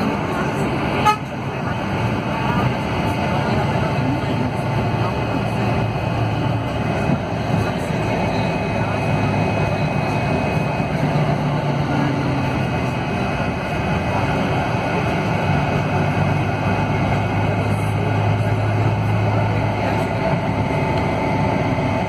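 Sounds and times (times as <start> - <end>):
low engine hum: 0.0 - 22.0
road and body noise: 0.0 - 22.0.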